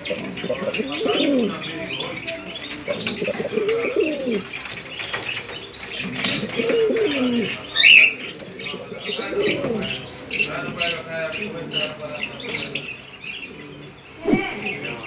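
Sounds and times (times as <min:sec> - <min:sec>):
pigeons cooing: 0:00.0 - 0:15.0
small birds chirping: 0:00.0 - 0:15.0.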